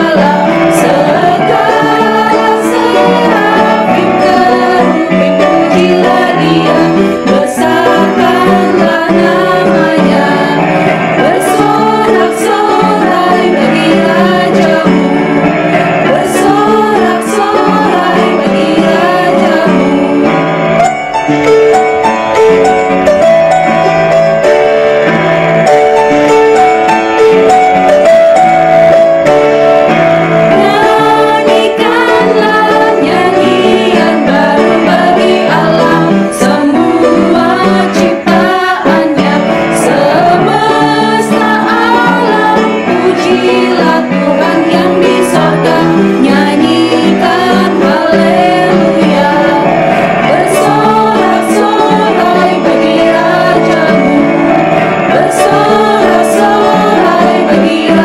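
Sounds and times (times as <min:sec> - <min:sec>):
women singing a praise song: 0:00.0 - 0:20.4, 0:30.5 - 0:54.5, 0:55.1 - 0:58.0
instrumental accompaniment: 0:00.0 - 0:58.0.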